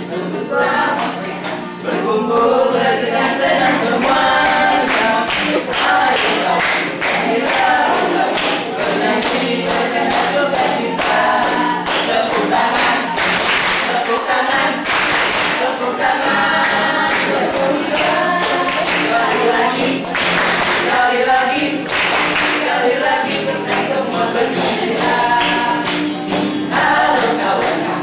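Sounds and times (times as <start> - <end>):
sharp rhythmic strikes: 0.8 - 28.0
group singing cheer in chorus: 1.9 - 26.0, 26.7 - 28.0.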